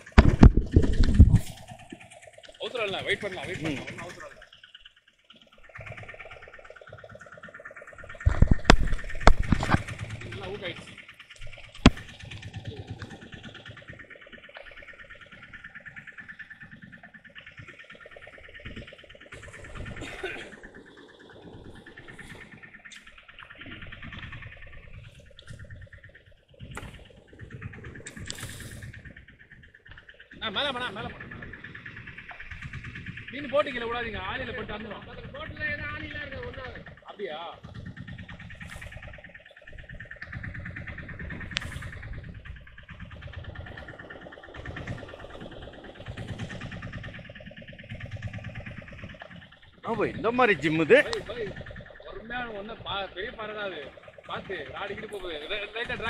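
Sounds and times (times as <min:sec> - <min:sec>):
fishing reel ticking whirr: 0:00.0 - 0:56.0
wind and sea rumble: 0:00.0 - 0:56.0.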